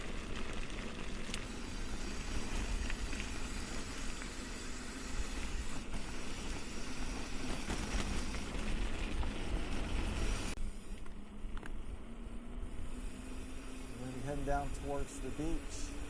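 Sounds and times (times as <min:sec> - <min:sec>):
bike tyres on dirt: 0:00.0 - 0:16.0.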